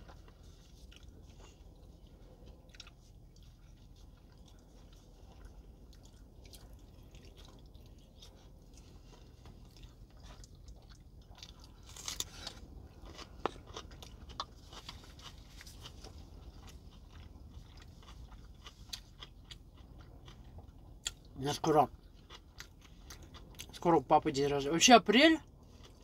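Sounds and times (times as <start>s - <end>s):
close chewing with crunches: 0.0s - 26.0s
steady low hum: 0.0s - 26.0s.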